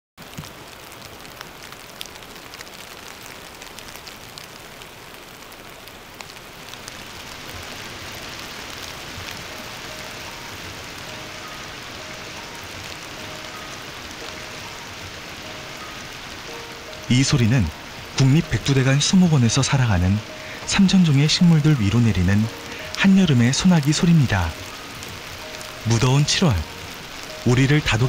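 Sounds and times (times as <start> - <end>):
rain pattering on foliage: 0.2 - 28.0
raindrops ticking close by: 0.2 - 28.0.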